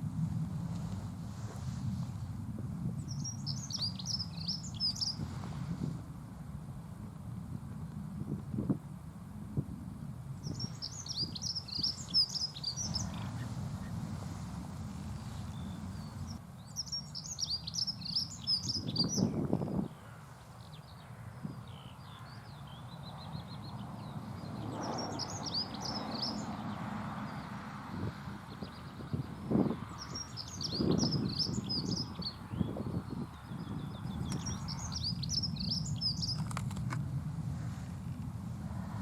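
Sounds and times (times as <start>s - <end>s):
low background rumble: 0.0s - 26.7s, 30.2s - 39.0s.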